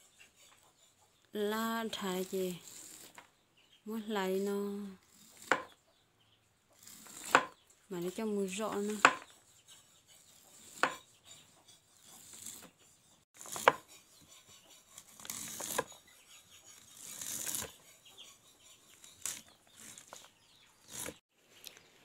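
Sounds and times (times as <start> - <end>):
knife scraping corn kernels: 0.0 - 3.4, 4.0 - 5.8, 6.7 - 21.2.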